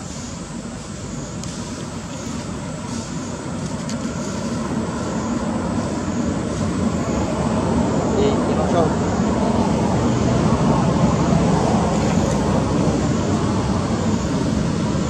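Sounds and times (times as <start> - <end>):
passing traffic engine rumble: 0.0 - 15.0.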